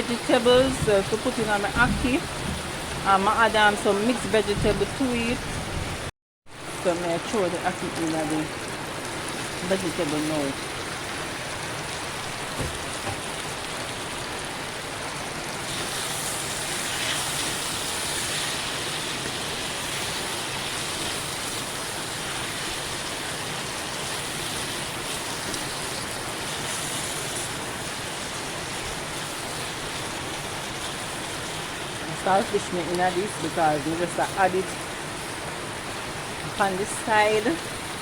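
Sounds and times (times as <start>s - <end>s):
vegetables sizzling in oil: 0.0s - 5.7s, 6.6s - 38.0s.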